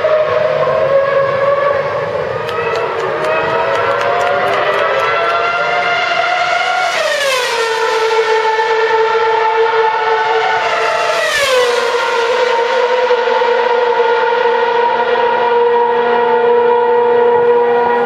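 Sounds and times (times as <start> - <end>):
racing car engine high note: 0.0 - 18.0.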